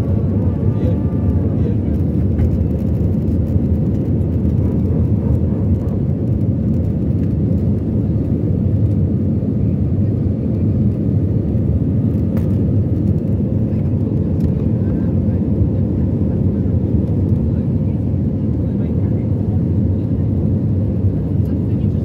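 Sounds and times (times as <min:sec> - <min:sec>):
jet engines roaring in cabin: 0:00.0 - 0:22.0.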